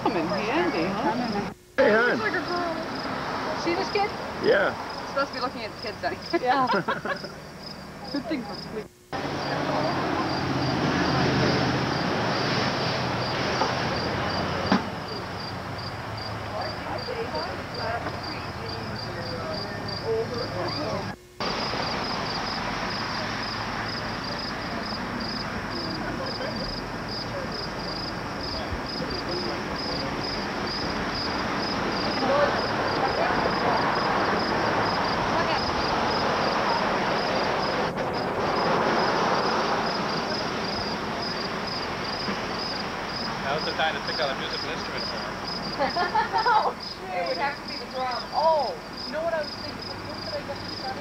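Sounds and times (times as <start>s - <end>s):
background hiss: 0.0s - 51.0s
crickets chirping: 0.0s - 51.0s
faint distant voices: 0.0s - 51.0s.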